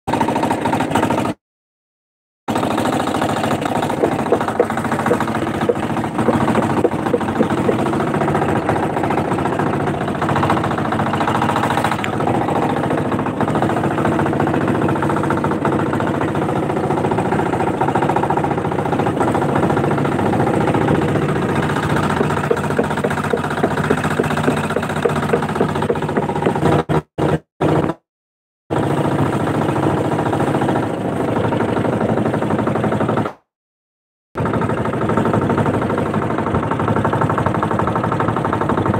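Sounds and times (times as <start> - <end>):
boat engine droning: 0.1 - 1.4, 2.5 - 28.0, 28.7 - 33.4, 34.4 - 38.9.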